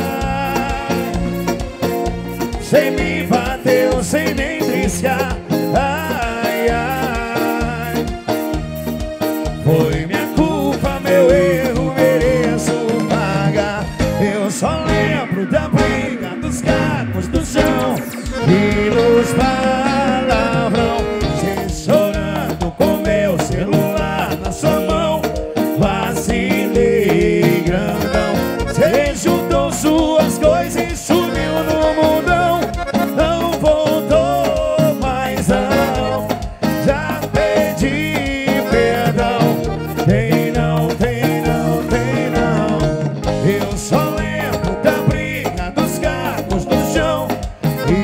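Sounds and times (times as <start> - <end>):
person singing: 0.0 - 8.5, 9.6 - 48.0
band playing dance music: 0.0 - 48.0.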